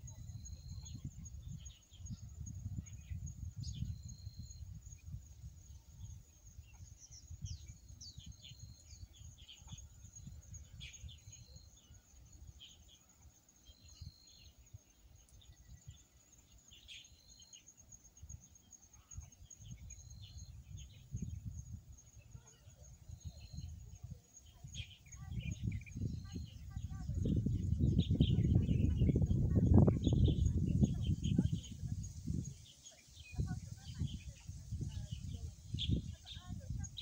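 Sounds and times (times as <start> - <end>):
wind rumble on microphone: 0.0 - 13.0, 13.7 - 16.2, 17.8 - 37.0
birds chirping and calling: 6.0 - 37.0.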